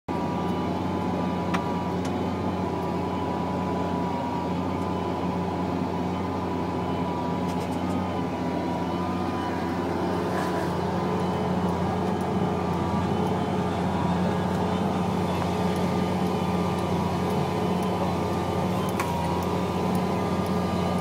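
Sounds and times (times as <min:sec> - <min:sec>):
steady high whine: 0:00.1 - 0:21.0
tractor diesel engine drone: 0:00.1 - 0:21.0.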